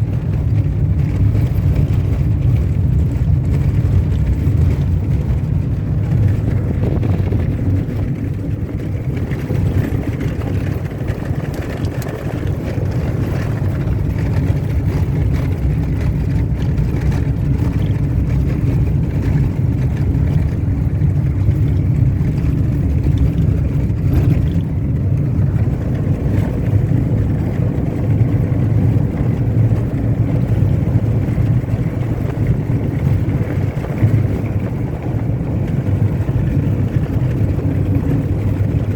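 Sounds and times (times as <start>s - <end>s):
car driving on dirt road: 0.0s - 38.9s.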